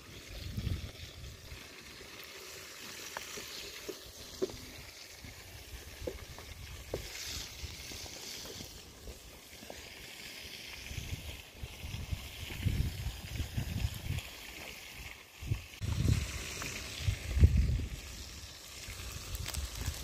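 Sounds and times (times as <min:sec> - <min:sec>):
fire crackling: 0:00.0 - 0:20.0
fish sizzling in hot oil: 0:00.0 - 0:20.0.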